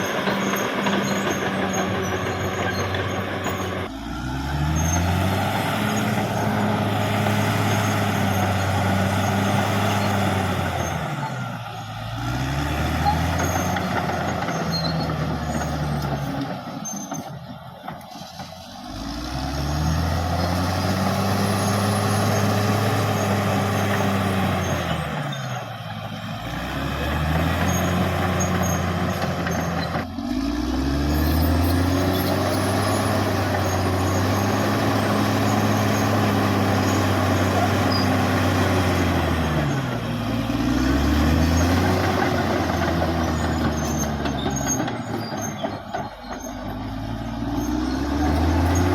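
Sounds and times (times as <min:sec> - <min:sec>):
bulldozer diesel engine working hard: 0:00.0 - 0:48.9.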